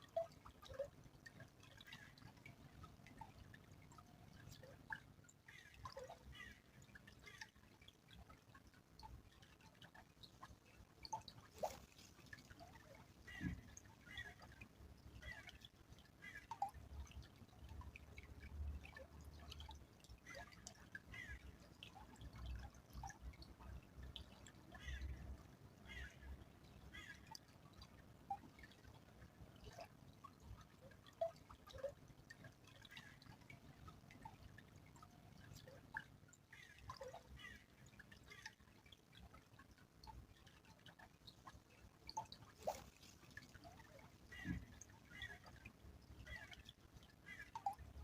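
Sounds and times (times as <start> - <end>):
small stream trickling: 0.0 - 48.0
water drips and plinks: 0.0 - 48.0.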